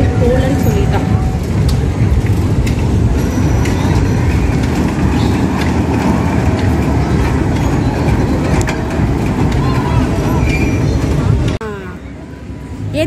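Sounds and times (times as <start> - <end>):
loud low rumble: 0.0 - 11.9.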